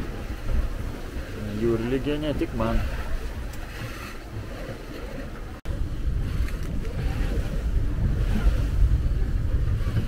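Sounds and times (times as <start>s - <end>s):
sea noise: 0.0s - 10.0s
wind buffeting microphone: 0.0s - 10.0s.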